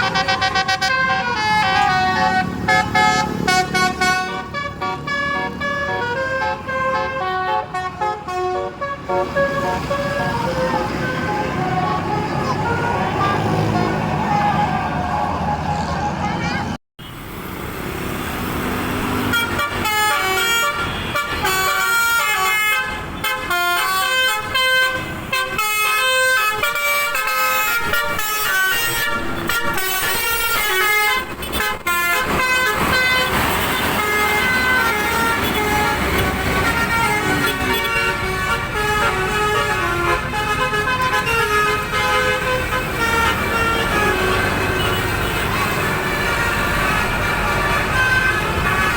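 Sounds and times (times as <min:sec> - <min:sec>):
multi-tone bus air horn tune: 0:00.0 - 0:15.4, 0:19.0 - 0:48.9
vehicle rumble: 0:00.0 - 0:48.9.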